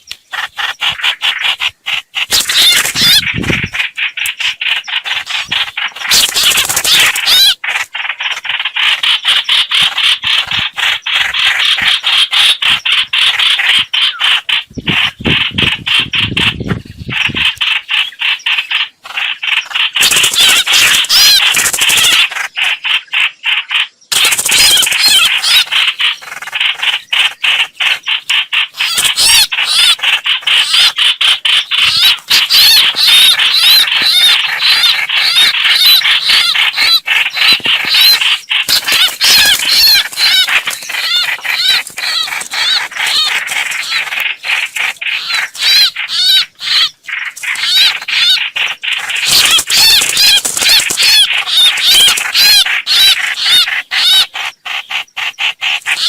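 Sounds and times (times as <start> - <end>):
bird chattering calls: 0.0 - 56.0.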